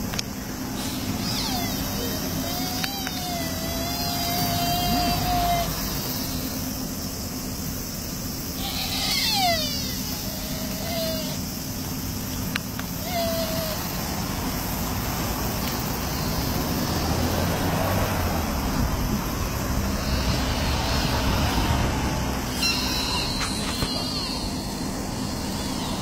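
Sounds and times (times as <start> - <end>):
low vehicle rumble: 0.0 - 26.0
road traffic noise: 0.0 - 26.0.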